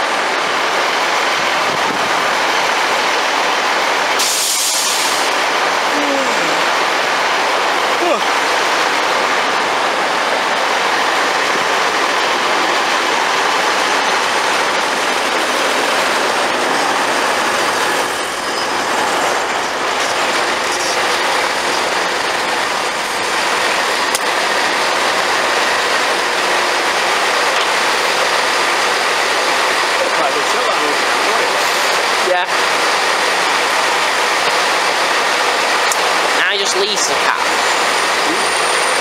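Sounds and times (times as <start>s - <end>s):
train wheel and rail noise: 0.0s - 39.0s.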